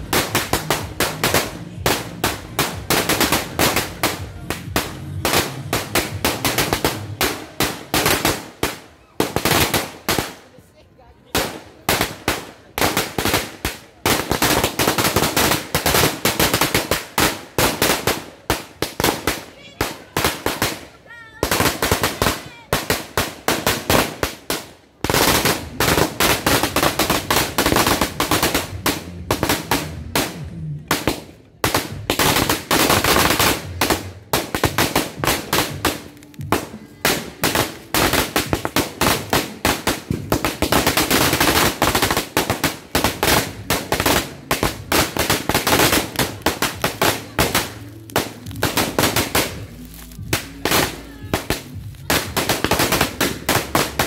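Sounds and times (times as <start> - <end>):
firecrackers banging: 0.0 - 54.0.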